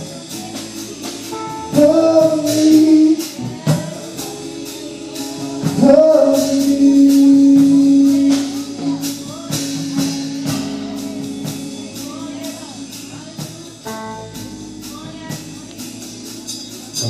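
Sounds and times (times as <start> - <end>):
gospel singing: 0.0 - 17.0
steady beat of sharp hits: 0.0 - 17.0.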